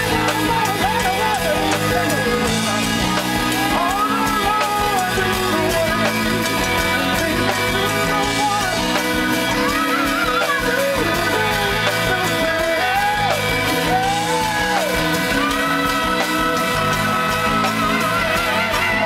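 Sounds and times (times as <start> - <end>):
live funk band playing: 0.0 - 19.0
man singing: 0.0 - 19.0.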